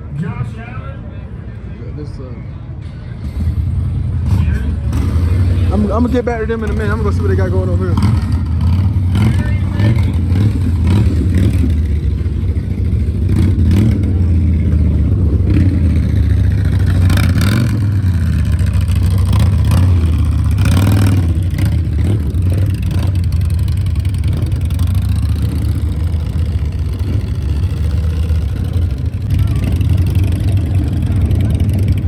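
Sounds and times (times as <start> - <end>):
crowd voices: 0.0 - 32.0
motorcycle engines rumbling: 0.0 - 32.0.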